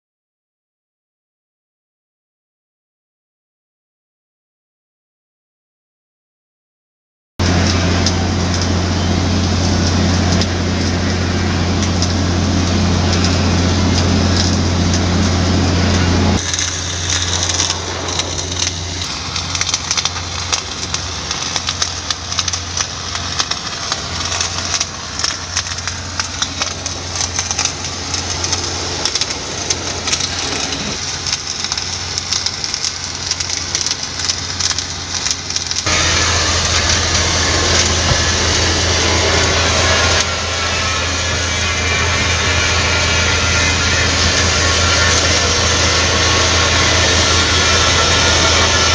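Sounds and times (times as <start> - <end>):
arc welding crackle: 7.4 - 48.9
low machine hum: 7.4 - 48.9.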